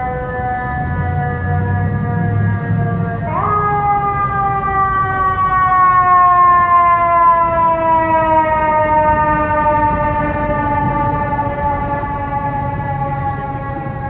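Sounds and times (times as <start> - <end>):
fire engine siren wailing: 0.0 - 14.0
truck and traffic rumble: 0.0 - 14.0.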